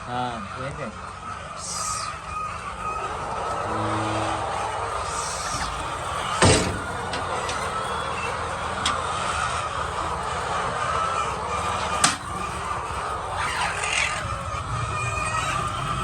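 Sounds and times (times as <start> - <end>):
chickens calling: 0.0 - 16.0
steady background hum: 0.0 - 16.0.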